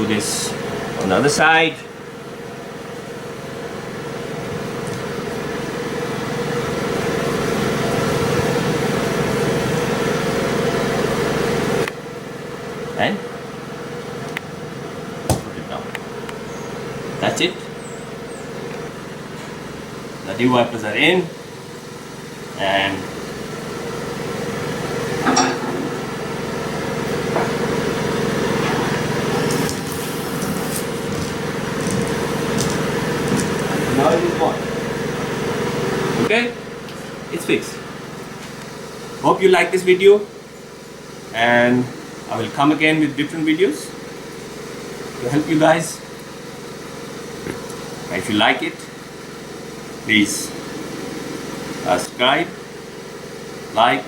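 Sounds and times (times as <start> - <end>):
steady mechanical hum: 0.0 - 54.0
windscreen washer pumping: 0.0 - 54.0
car engine idling: 1.9 - 54.0.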